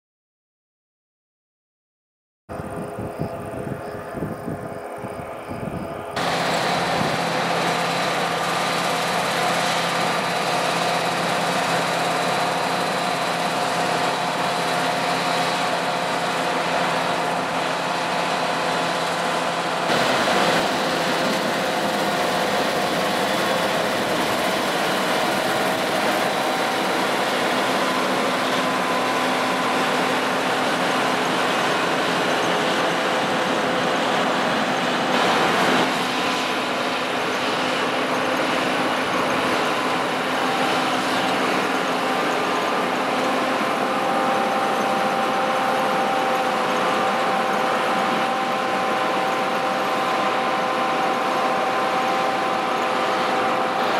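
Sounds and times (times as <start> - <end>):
combine harvester droning: 2.5 - 53.9
whining machine tones: 2.5 - 53.9.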